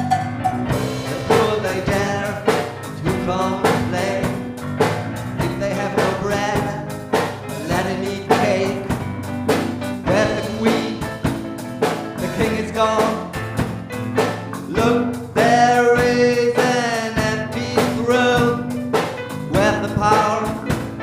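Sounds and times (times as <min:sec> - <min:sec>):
drum kit strikes: 0:00.0 - 0:21.0
slow rock ballad music: 0:00.0 - 0:21.0.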